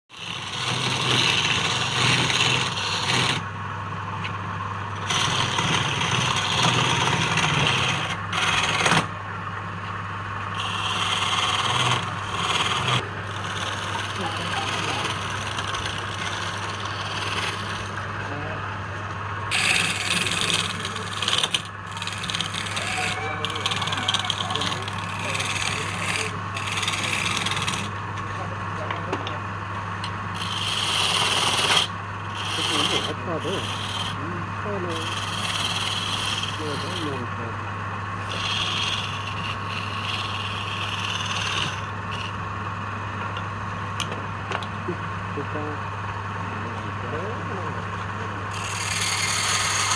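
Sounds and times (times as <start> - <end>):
spinning wood scraping: 0.1 - 44.2, 45.2 - 49.9
lathe motor hum: 0.1 - 49.9.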